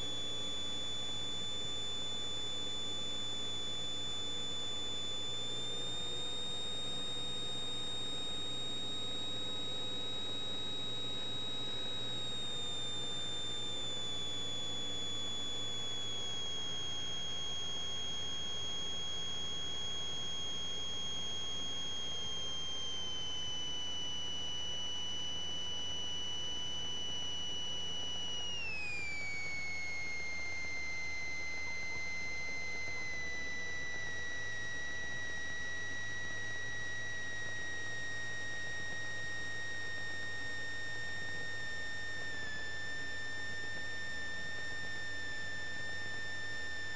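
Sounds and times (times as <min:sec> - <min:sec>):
high electrical alternator whine: 0:00.0 - 0:46.9.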